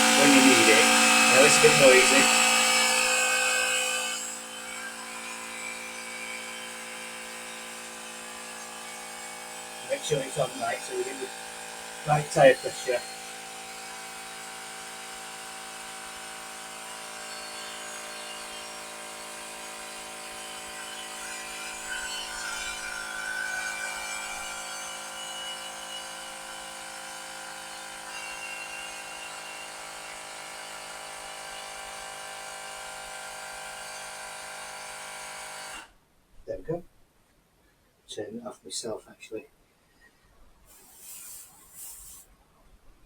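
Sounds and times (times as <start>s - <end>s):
electric tyre pump running: 0.0s - 35.9s, 40.7s - 42.2s.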